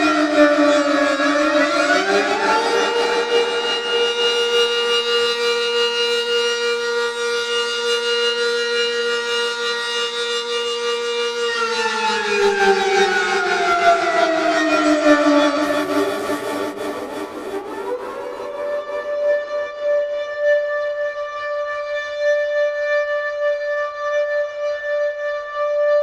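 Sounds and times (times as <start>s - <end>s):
civil defense warning siren: 0.0s - 26.0s.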